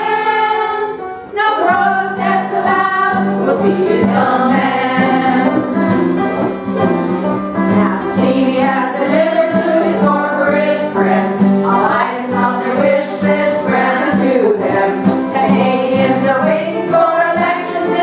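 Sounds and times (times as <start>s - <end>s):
women singing together: 0.0s - 6.0s, 7.7s - 18.0s
acoustic guitars and banjo: 0.0s - 18.0s.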